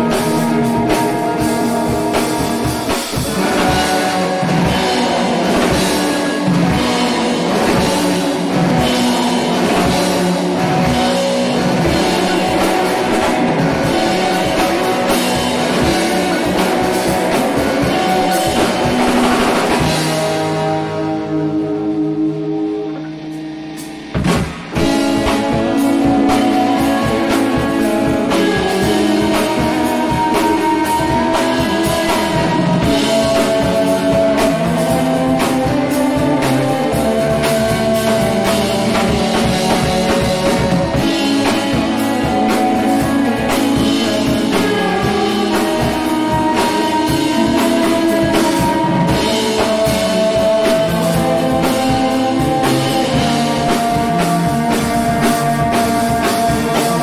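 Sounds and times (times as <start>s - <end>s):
drum kit beat: 0.0s - 57.0s
electric guitar: 0.0s - 57.0s
live band playing: 0.0s - 57.0s.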